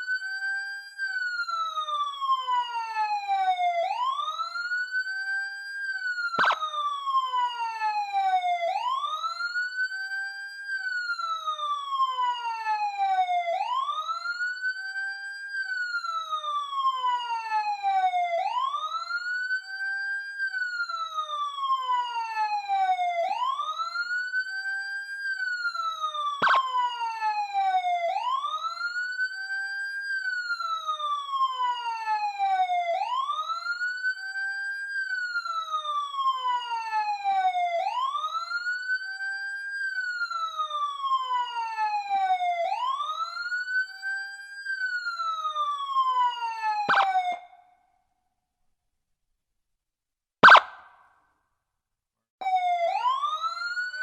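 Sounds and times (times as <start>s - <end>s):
police siren wailing: 0.0s - 47.9s, 50.4s - 51.0s, 52.4s - 54.0s.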